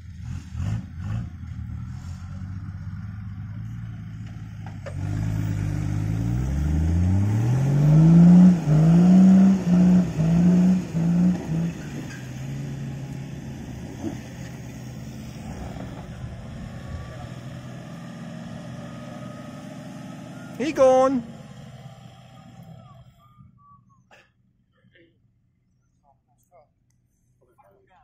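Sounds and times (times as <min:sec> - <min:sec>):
engine revving: 0:00.0 - 0:23.2.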